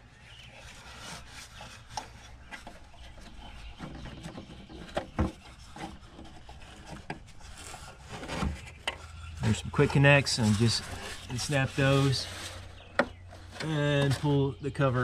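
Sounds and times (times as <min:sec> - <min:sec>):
gloved hands rubbing and scraping: 0:00.0 - 0:15.0.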